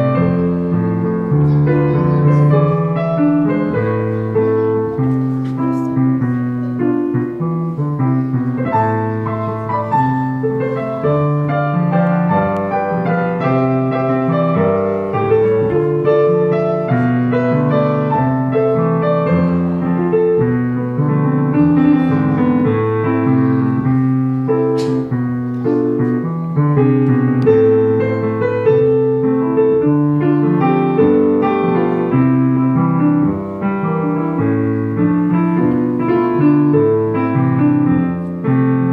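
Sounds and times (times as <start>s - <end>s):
slow piano music: 0.0s - 38.9s.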